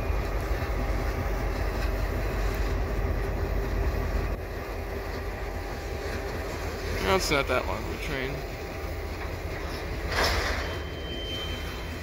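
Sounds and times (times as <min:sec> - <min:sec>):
diesel locomotive engines droning: 0:00.0 - 0:12.0.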